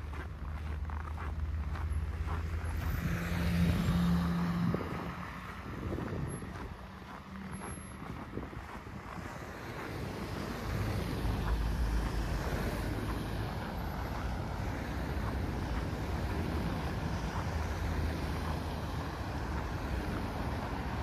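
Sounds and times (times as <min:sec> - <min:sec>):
passing vehicles rumbling: 0:00.0 - 0:21.0.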